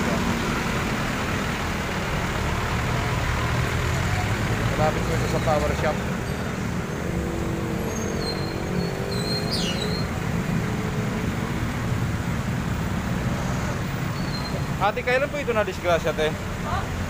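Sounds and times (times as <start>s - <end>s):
engine hum: 0.0s - 17.0s
low rumble of road vehicles: 0.0s - 17.0s.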